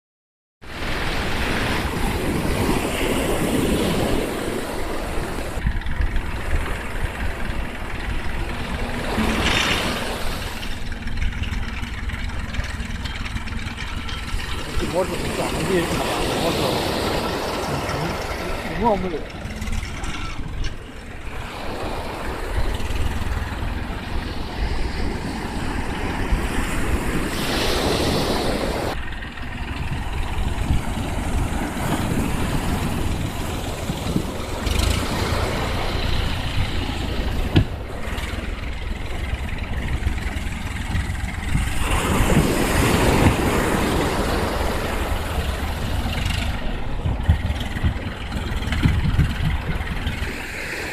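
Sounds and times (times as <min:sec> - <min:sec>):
surf breaking on beach: 0:00.6 - 0:50.9
wind rumbling on microphone: 0:00.6 - 0:50.9.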